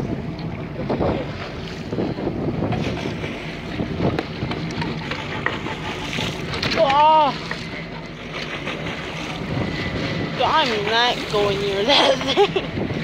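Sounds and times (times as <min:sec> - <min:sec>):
wind gusting on microphone: 0:00.0 - 0:07.8, 0:08.4 - 0:13.0
sea water washing along boat: 0:00.0 - 0:13.0.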